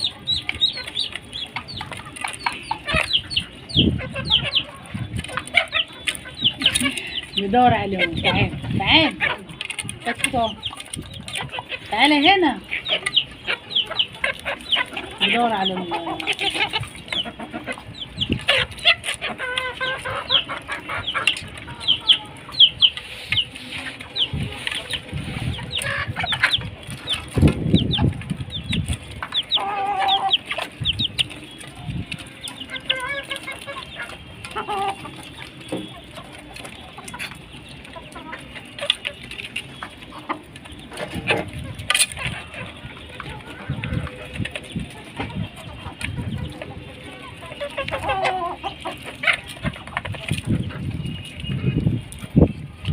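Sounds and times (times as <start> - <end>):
chickens clucking: 0.0 - 52.9
chicks peeping: 0.0 - 52.9.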